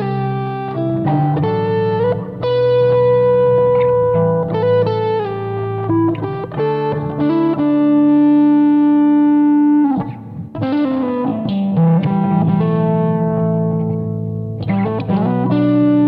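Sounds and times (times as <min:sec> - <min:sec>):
electric lead guitar melody: 0:00.0 - 0:16.0.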